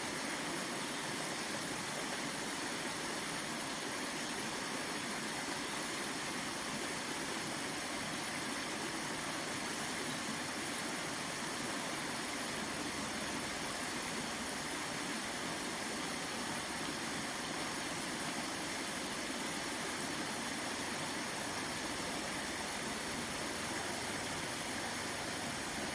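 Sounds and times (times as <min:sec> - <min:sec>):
waterfall stream rushing: 0:00.0 - 0:25.9.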